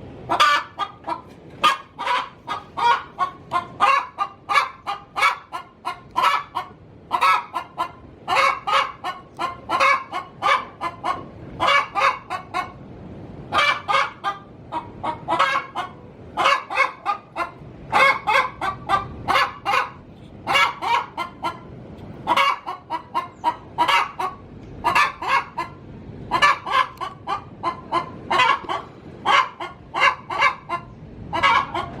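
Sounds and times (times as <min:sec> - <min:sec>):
hen cackling: 0:00.0 - 0:32.0.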